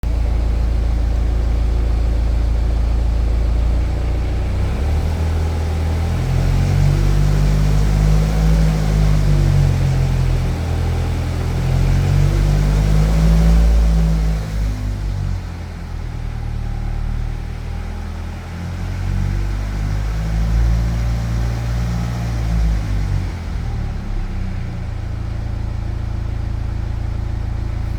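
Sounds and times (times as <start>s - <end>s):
engine rattle: 0.0s - 27.9s
diesel engine revving: 0.1s - 27.9s.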